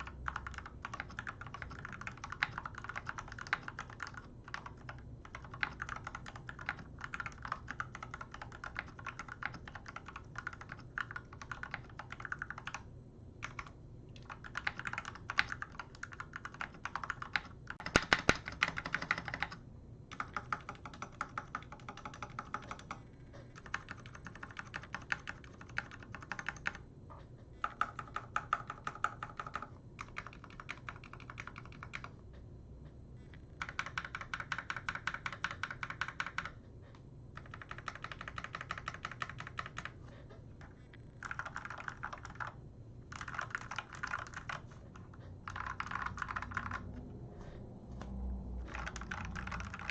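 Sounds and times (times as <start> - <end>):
mechanical keyboard typing: 0.0 - 26.8, 27.6 - 32.2, 33.3 - 36.6, 37.3 - 47.0, 48.6 - 49.9.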